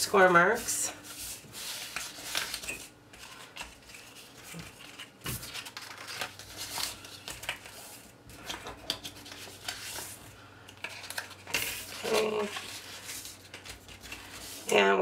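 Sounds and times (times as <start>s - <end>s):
stiff paper folding and rustling: 0.0s - 14.8s.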